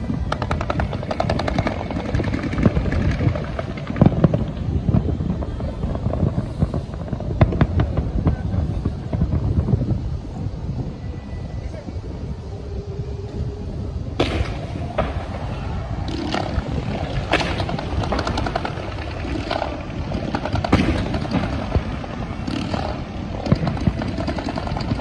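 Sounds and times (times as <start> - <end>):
fireworks bangs: 0.0 - 11.0, 13.0 - 25.0
fireworks crackling: 0.0 - 25.0
low rumble: 0.0 - 25.0.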